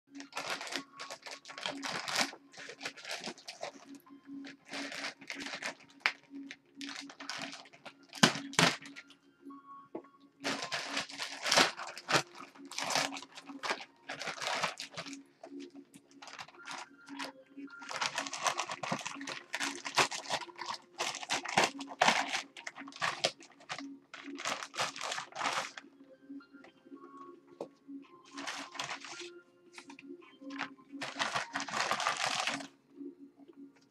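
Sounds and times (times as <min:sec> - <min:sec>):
plastic bag crinkling and tearing: 0:00.1 - 0:09.0, 0:10.4 - 0:25.8, 0:28.3 - 0:29.9, 0:30.5 - 0:32.7.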